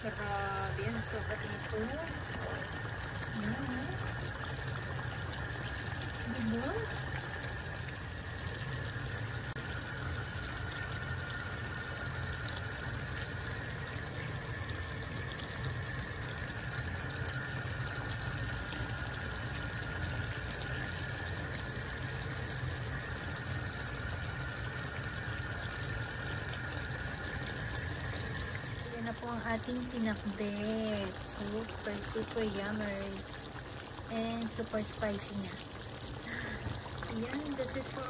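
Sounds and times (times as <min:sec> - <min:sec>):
faint high hum: 0:00.0 - 0:38.0
food simmering and sputtering: 0:00.0 - 0:38.0.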